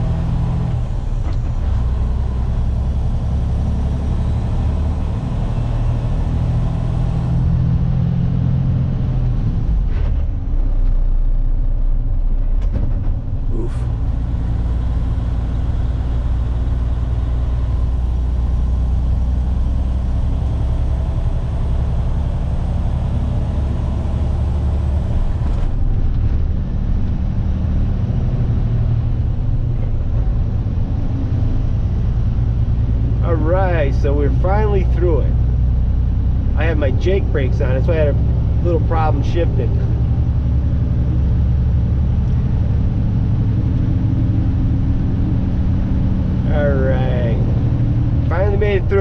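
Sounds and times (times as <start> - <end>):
truck diesel engine droning: 0.0 - 49.0.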